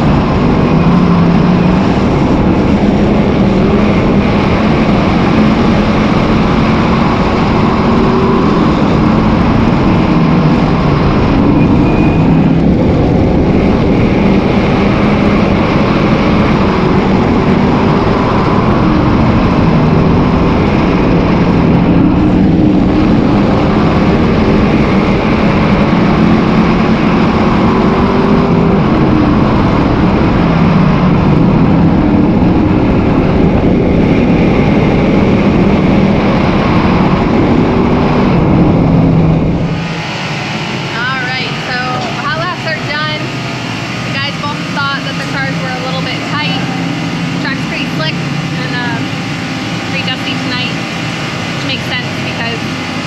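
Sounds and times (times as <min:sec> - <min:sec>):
race car engines droning: 0:00.0 - 0:53.0.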